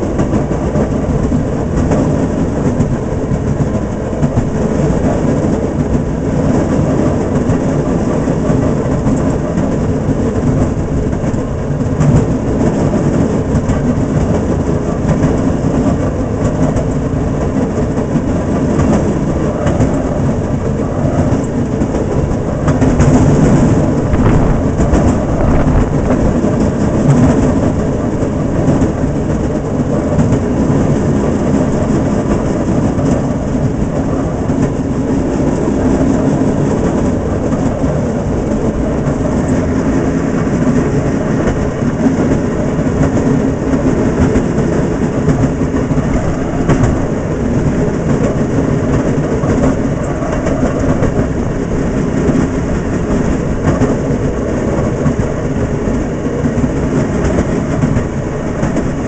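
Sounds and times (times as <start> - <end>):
rail car motor and wheels running: 0.0 - 59.0
wheels clicking over track: 0.0 - 59.0.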